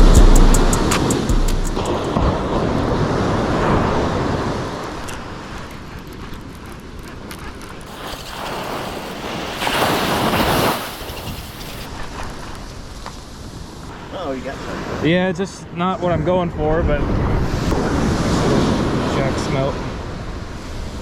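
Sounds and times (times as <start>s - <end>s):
wind buffeting microphone: 0.0s - 21.0s
ocean surf on beach: 0.8s - 6.0s, 7.9s - 21.0s.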